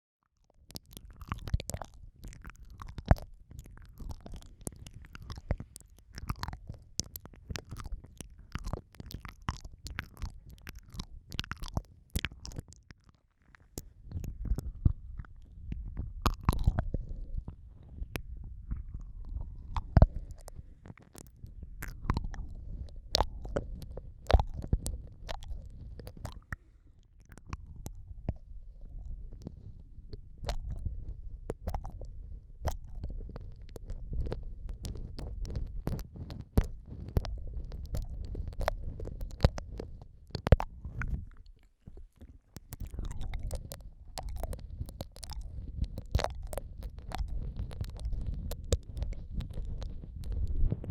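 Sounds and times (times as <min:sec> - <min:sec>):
wet mouth sounds: 0:00.5 - 0:50.9.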